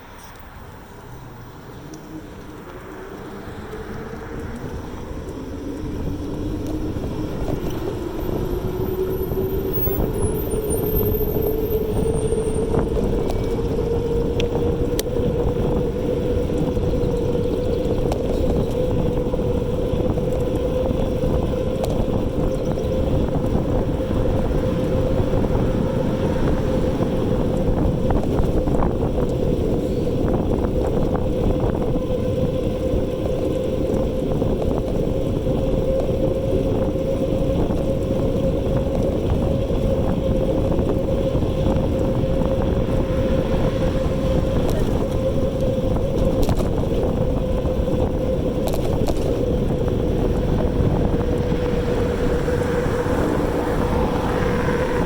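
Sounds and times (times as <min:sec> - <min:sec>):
low rumble: 0:00.0 - 0:55.0
electric motor whining: 0:01.3 - 0:55.0.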